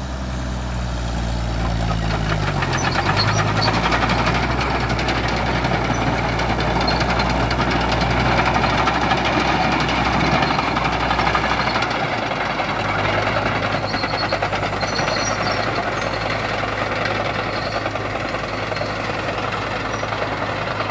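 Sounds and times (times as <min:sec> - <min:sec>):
diesel tractor engine clattering: 0:00.0 - 0:20.9.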